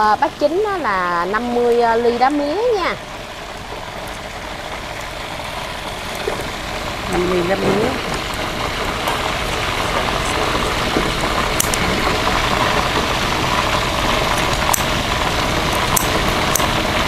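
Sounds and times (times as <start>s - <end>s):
chicken deep-frying in hot oil: 0.0s - 17.0s
sharp oil ticks: 1.2s - 7.0s, 8.0s - 17.0s.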